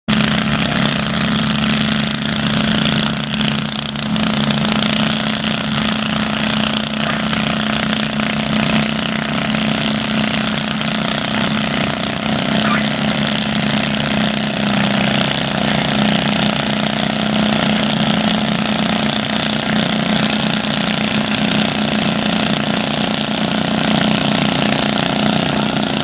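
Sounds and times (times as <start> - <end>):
lawn tractor engine running: 0.1 - 26.0.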